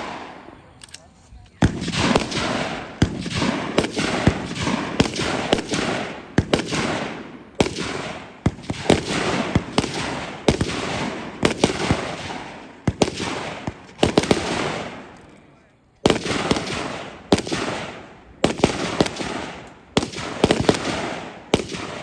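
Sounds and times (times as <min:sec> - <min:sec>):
gunshots with long echo: 0:00.0 - 0:01.0, 0:01.6 - 0:15.2, 0:16.0 - 0:22.0.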